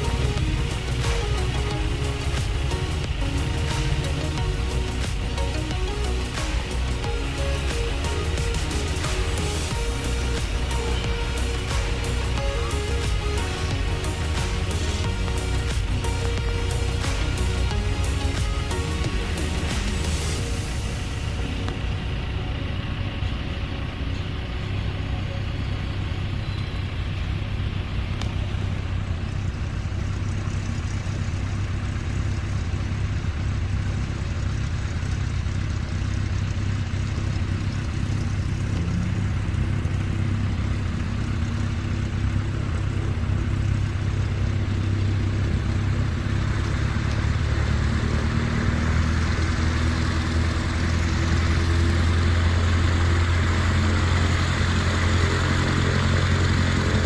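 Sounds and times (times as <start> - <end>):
propeller plane engine running: 0.0 - 57.0.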